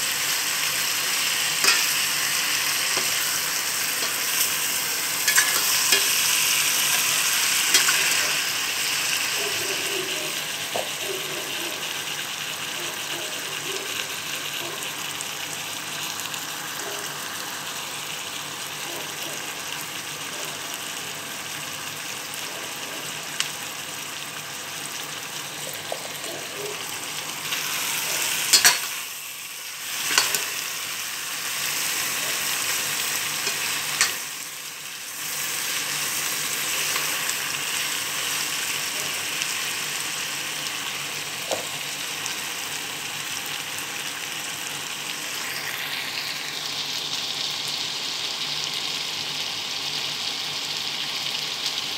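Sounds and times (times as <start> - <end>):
food sizzling in a pot: 0.0 - 51.9.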